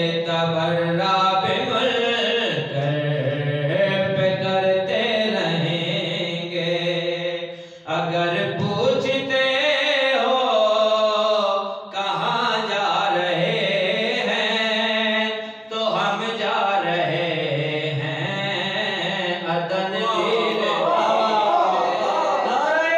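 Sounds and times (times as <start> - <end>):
man chanting melodically: 0.0 - 22.9.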